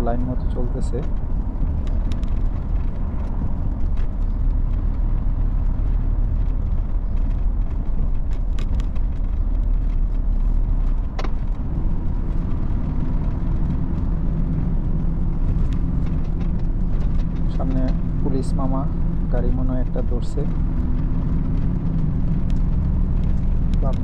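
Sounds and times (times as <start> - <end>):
road noise: 0.0 - 24.0
truck diesel engine rumble: 0.0 - 24.0.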